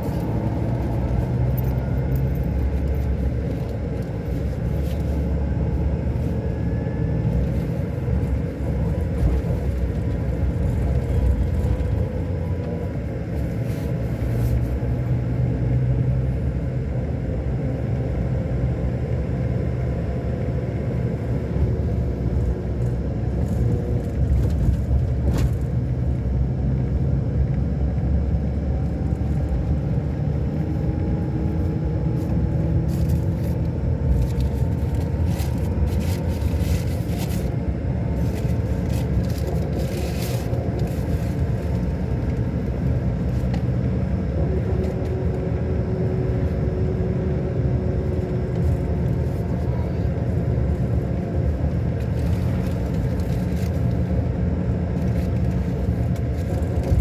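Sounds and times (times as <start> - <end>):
coach engine rumbling: 0.0 - 57.0.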